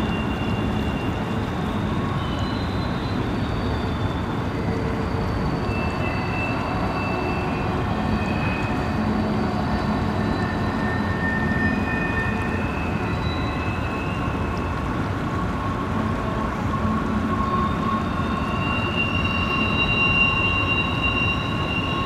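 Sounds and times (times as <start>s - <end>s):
high-pitched wheel squeals: 0.0s - 22.0s
train wheels rumbling on rail: 0.0s - 22.0s.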